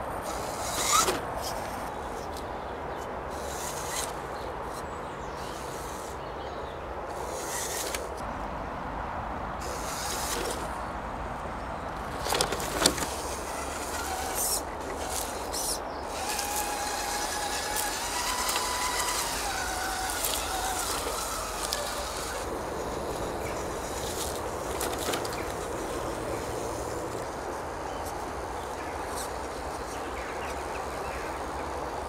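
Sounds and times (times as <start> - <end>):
toy car electric motor whine: 0.0 - 2.4, 3.3 - 6.2, 7.1 - 8.2, 9.6 - 10.8, 12.0 - 32.0.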